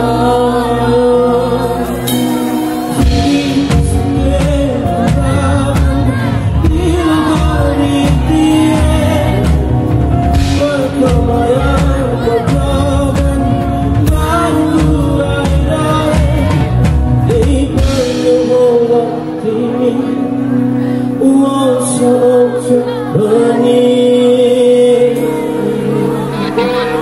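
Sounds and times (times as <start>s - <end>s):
live band music: 0.0s - 27.0s
man singing into a microphone: 0.0s - 27.0s.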